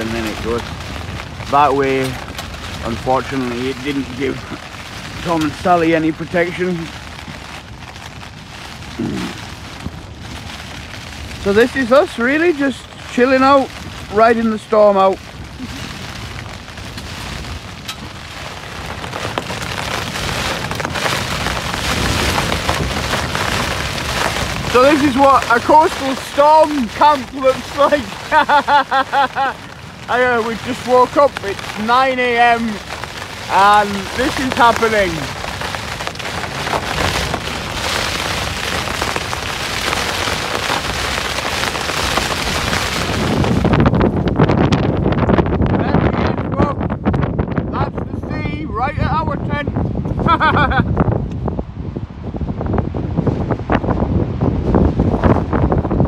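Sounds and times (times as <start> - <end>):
tent fabric flapping and rattling: 0.0 - 47.6, 49.8 - 51.3, 52.0 - 56.0
wind blasting microphone: 0.0 - 56.0.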